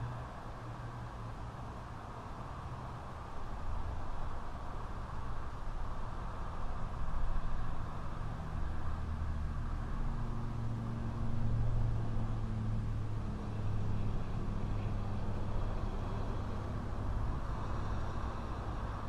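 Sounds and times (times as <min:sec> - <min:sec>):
background rush of noise: 0:00.0 - 0:19.0.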